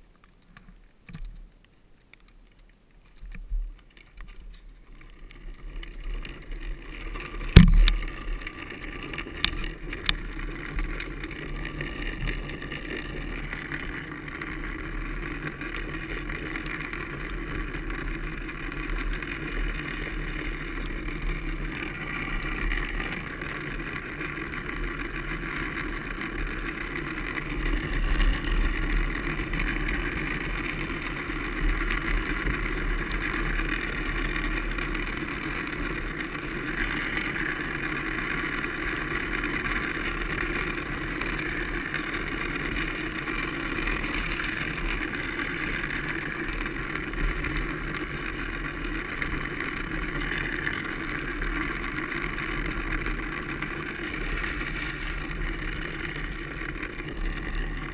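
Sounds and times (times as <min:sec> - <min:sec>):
wind rumbling on microphone: 0:03.3 - 0:57.9
wheels hissing on wet road: 0:08.3 - 0:57.9.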